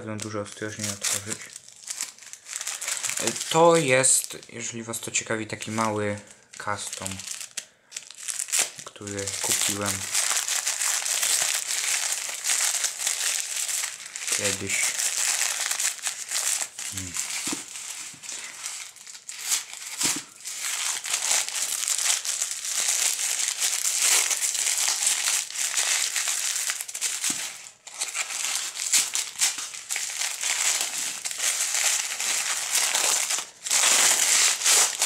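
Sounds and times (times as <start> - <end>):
wrapping crinkling: 0.0 - 35.0.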